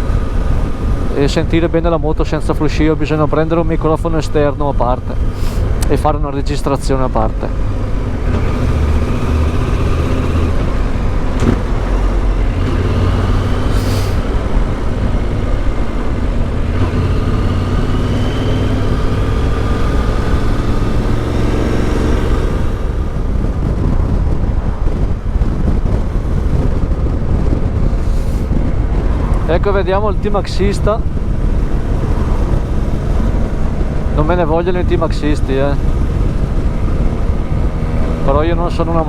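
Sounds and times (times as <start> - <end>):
wind rustle on microphone: 0.0 - 1.6, 7.3 - 38.6
motorcycle engine accelerating: 7.0 - 39.0.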